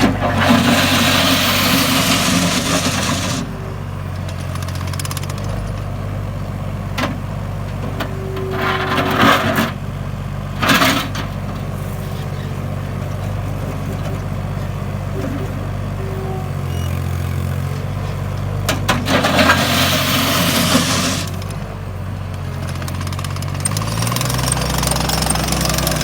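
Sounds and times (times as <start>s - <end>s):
loader engine running: 0.0s - 26.0s.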